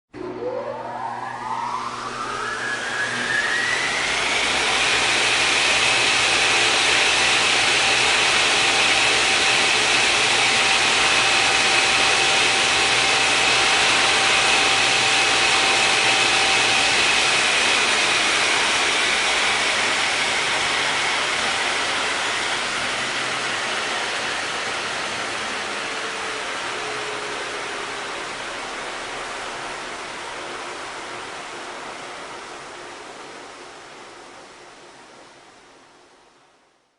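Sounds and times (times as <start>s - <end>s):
turbine whine: 0.1s - 35.3s.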